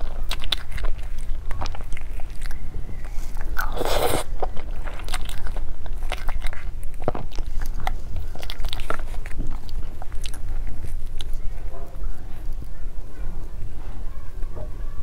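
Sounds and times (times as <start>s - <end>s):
wet chewing clicks and smacks: 0.0s - 12.8s.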